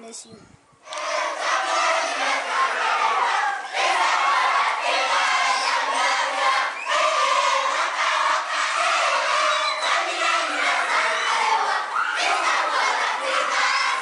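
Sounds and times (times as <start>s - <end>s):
children cheering and shouting: 0.9s - 14.0s.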